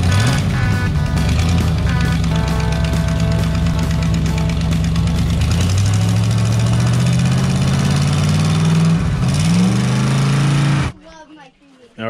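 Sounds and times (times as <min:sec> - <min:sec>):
engine blipped at the carburetor: 0:00.0 - 0:11.0.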